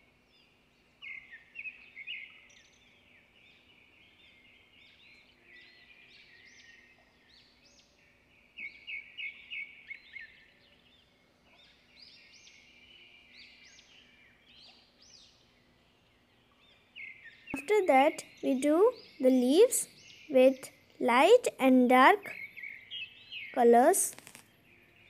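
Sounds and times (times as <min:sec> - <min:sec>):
small birds chirping: 0:00.3 - 0:25.0.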